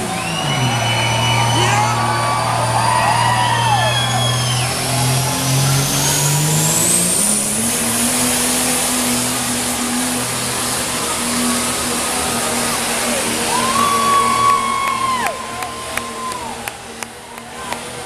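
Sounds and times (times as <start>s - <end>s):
high whine: 0.0s - 17.7s
diesel engine revving under load: 0.0s - 18.0s.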